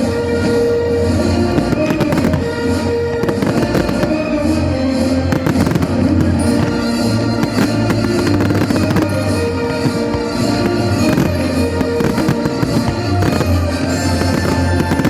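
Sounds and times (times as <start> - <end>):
fireworks bangs and crackles: 0.0 - 15.0
music with long held notes: 0.0 - 15.0.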